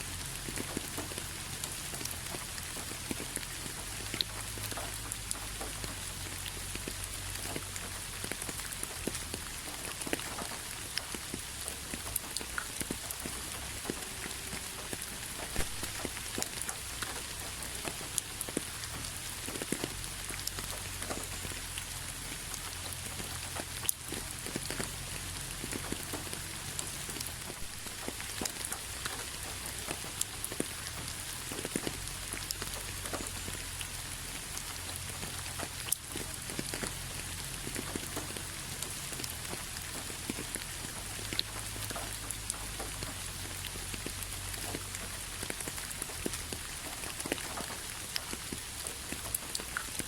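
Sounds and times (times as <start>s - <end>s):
rain drops ticking on hard surface: 0.0s - 50.0s.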